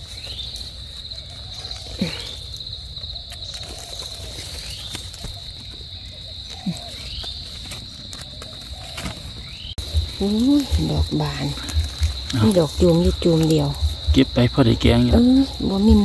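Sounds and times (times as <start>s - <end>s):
faint rustles of leaf litter: 0.0s - 13.8s
crickets trilling: 0.0s - 16.0s.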